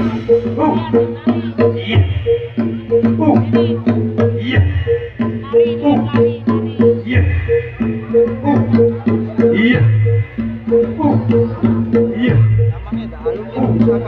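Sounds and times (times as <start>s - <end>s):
deep low drum stroke: 0.0s - 14.0s
hand drums beating: 0.0s - 14.0s.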